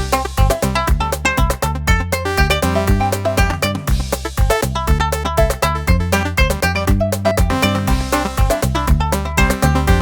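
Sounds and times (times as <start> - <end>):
upbeat music with strong bass: 0.0 - 10.0.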